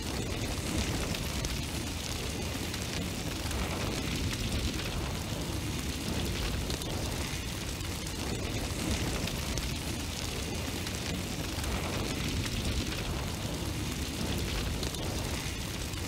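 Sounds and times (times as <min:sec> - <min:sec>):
flame burning with rushing rumble: 0:00.0 - 0:16.0.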